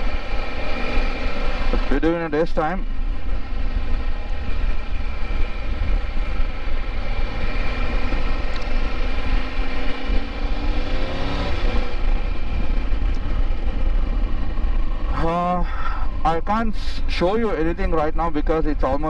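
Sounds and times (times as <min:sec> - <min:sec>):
motorcycle engine accelerating: 0:00.0 - 0:18.4.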